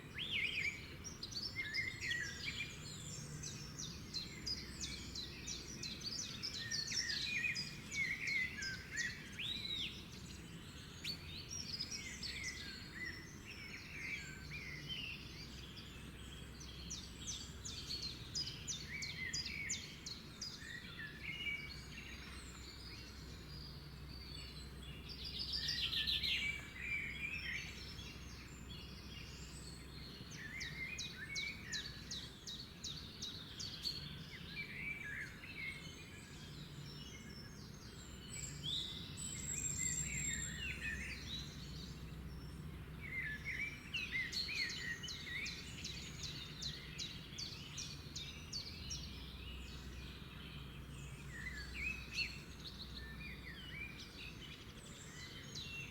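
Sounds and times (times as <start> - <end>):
wild birds singing: 0.0 - 55.9.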